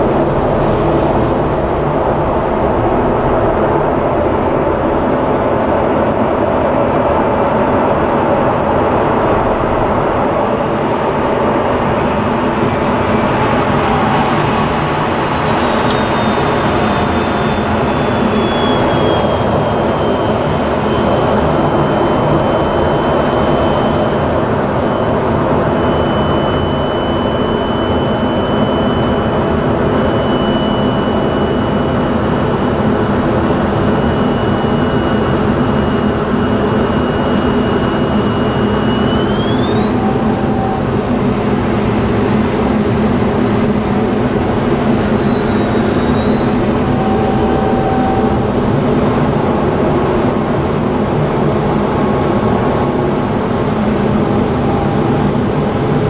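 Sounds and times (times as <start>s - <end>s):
high whine: 0.0s - 56.0s
jet engine roar: 0.0s - 56.0s.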